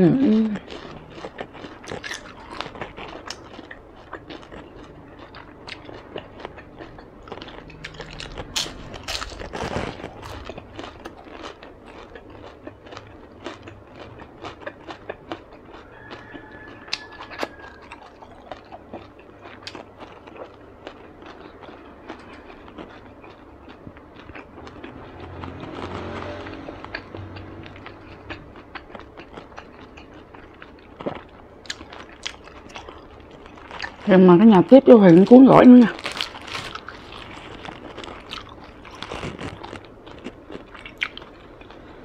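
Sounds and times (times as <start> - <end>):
crunchy chewing: 0.2 - 42.0.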